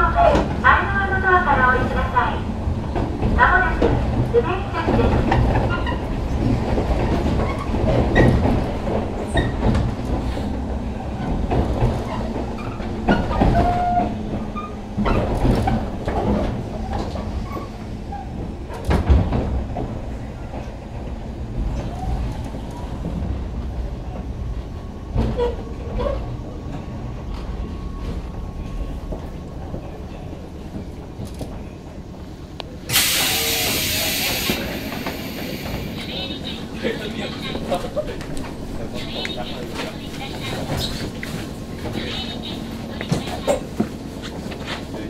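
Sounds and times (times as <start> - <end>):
train wheels and motors rumbling: 0.0 - 45.0.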